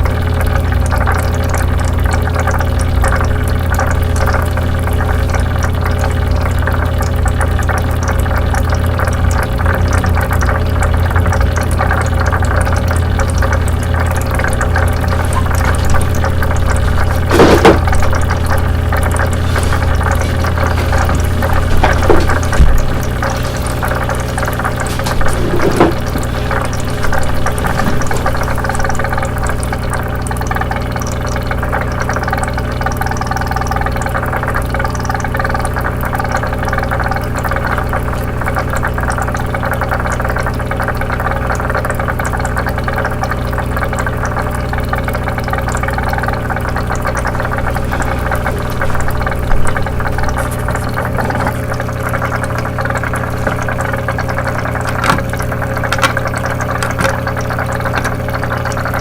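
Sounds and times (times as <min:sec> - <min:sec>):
water bubbling: 0:00.0 - 0:59.0.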